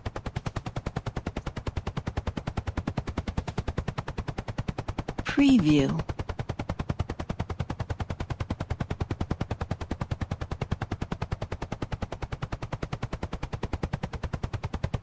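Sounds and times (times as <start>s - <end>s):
helicopter rotor blades chopping: 0.0s - 14.9s.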